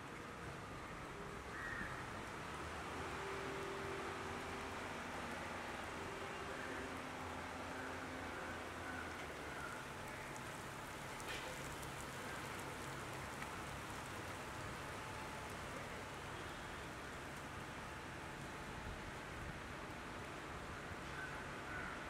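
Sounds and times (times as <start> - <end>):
light rain on pavement: 0.0 - 22.0.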